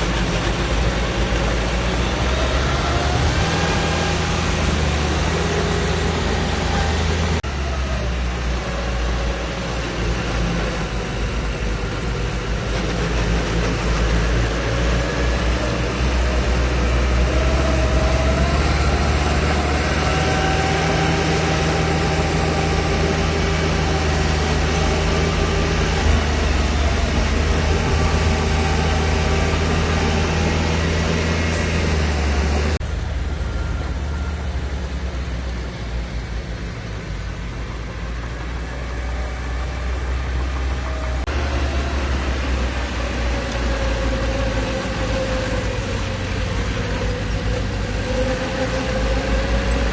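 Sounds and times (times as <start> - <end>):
heavy diesel engine drone: 0.0 - 49.9.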